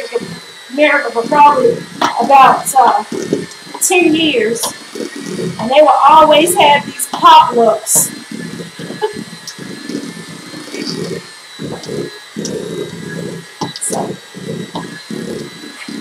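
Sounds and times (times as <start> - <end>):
beaters churning thick mixture: 0.0 - 16.0
electric hand mixer running: 0.0 - 16.0.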